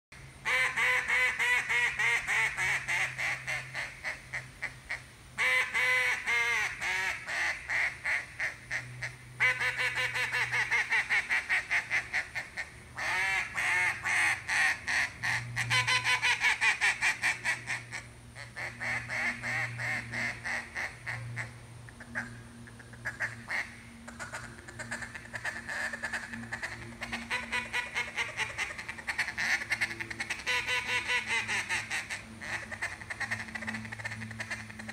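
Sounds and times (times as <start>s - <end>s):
duck call quacking: 0.4s - 34.9s.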